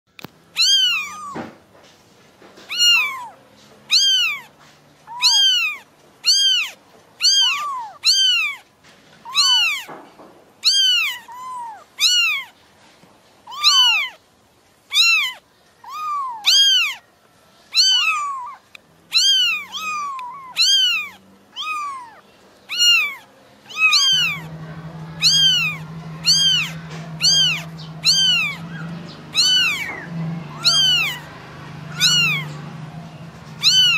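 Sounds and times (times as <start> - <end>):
kitten mewing: 0.6 - 1.6, 2.7 - 4.5, 5.1 - 8.6, 9.2 - 9.9, 10.6 - 12.6, 13.5 - 14.2, 14.9 - 17.0, 17.7 - 32.8, 33.6 - 33.9.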